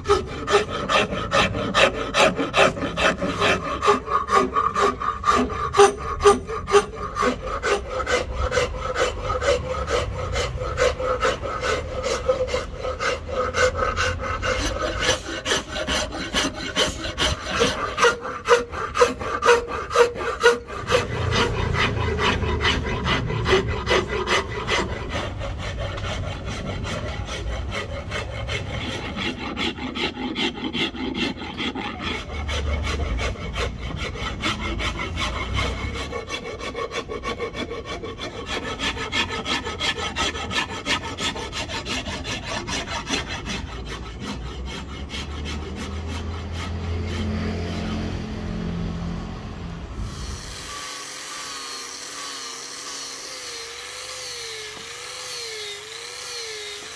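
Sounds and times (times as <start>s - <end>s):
tool scraping wood: 0.0s - 49.3s, 49.9s - 56.9s.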